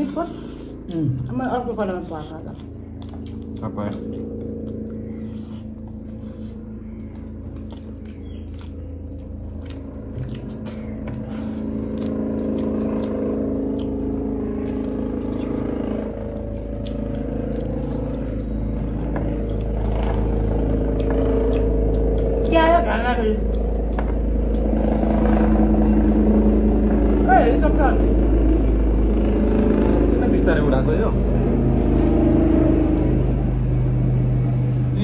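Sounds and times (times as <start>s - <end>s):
airplane engines droning: 0.0s - 35.0s
chewing and eating clicks: 1.1s - 27.2s, 31.4s - 34.8s.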